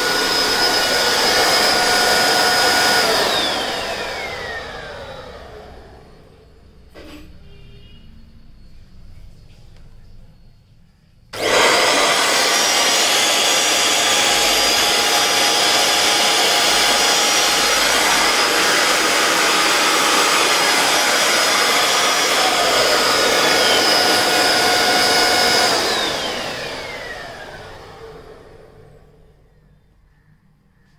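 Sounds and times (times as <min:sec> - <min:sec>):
vacuum cleaner motor whine: 0:00.0 - 0:07.2, 0:11.3 - 0:29.6.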